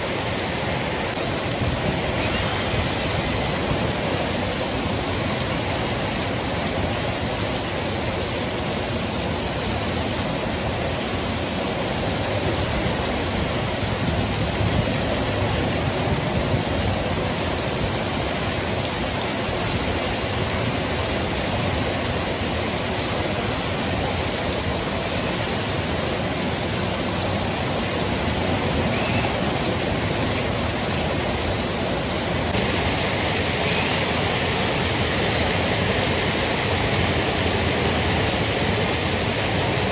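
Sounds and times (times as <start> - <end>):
heavy rain on paving: 0.0 - 39.9.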